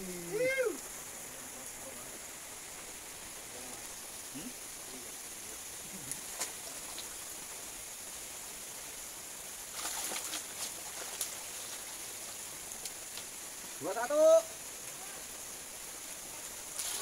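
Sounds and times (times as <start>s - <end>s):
night insects chirring: 0.0s - 17.0s.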